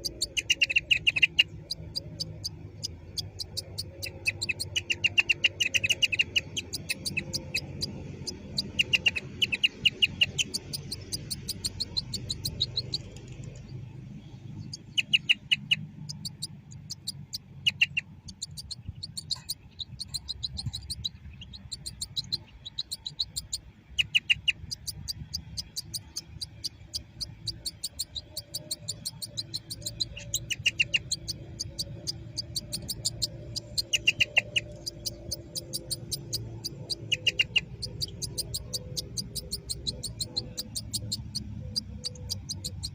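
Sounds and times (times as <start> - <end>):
finch singing: 0.0 - 42.9.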